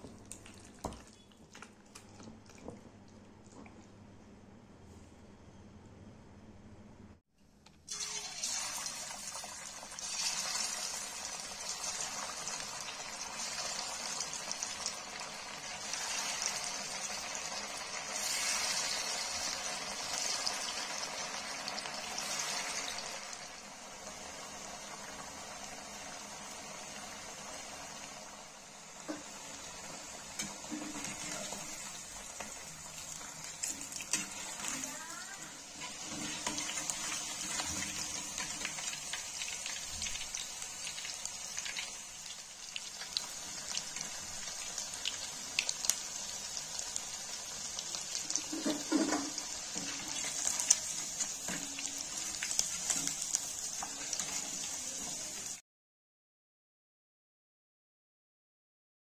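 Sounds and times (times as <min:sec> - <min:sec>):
chicken deep-frying in hot oil: 0:00.0 - 0:03.7, 0:07.6 - 0:55.6.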